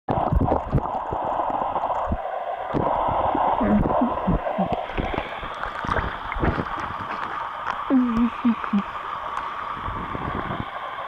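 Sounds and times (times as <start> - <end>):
bubbling gurgles: 0.1 - 11.0
muffled underwater sloshing: 0.1 - 11.0.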